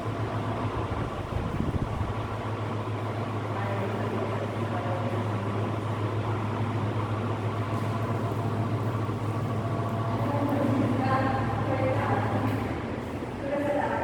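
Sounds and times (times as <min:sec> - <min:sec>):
ceiling fan motor humming: 0:00.0 - 0:14.0.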